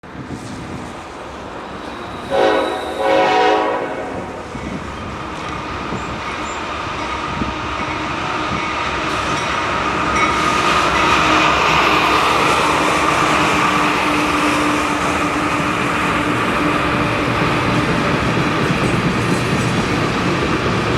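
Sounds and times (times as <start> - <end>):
freight train rumbling past: 0.0 - 20.9.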